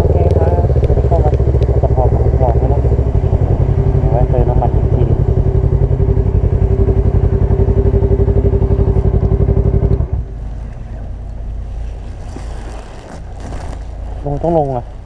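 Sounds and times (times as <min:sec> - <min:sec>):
motorcycle engine running: 0:00.0 - 0:14.3
quiet steady rumble: 0:00.0 - 0:15.0.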